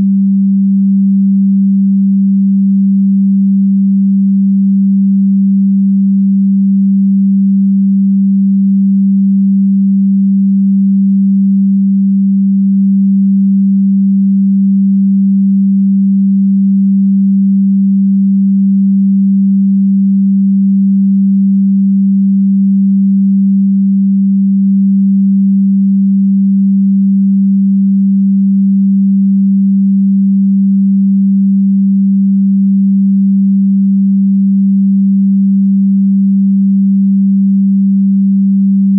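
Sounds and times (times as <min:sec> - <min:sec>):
steady low sine tone: 0:00.0 - 0:38.9.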